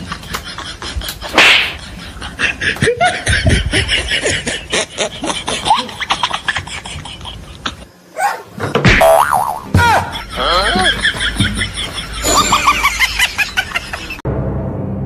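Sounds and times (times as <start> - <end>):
person laughing: 0.0 - 7.9, 9.7 - 14.2.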